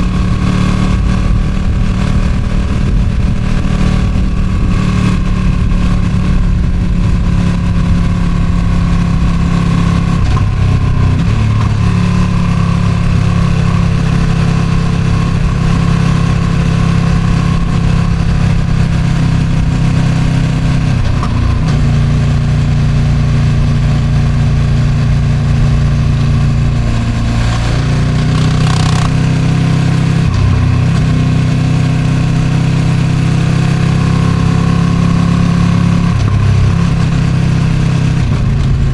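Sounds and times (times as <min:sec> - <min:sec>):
wind noise on microphone: 0:00.0 - 0:34.8, 0:35.9 - 0:38.9
motorcycle engine at speed: 0:00.0 - 0:38.9.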